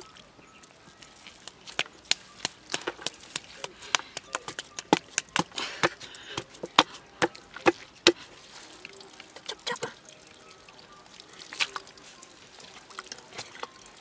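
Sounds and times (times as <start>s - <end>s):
hands digging wet mud: 0.0s - 10.0s, 11.4s - 14.0s.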